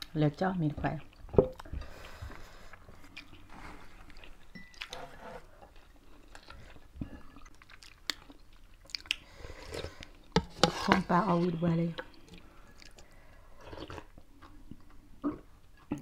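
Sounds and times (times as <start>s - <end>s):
people chewing food: 0.8s - 10.7s, 11.7s - 16.0s.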